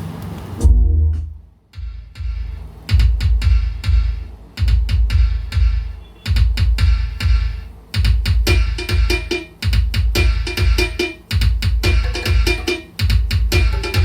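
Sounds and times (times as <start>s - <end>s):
bass-heavy instrumental music: 0.6s - 14.0s.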